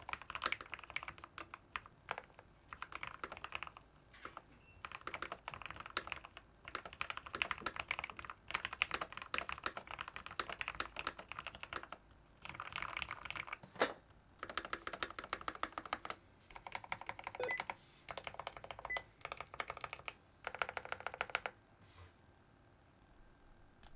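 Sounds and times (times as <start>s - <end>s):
mechanical keyboard typing: 0.0s - 21.6s.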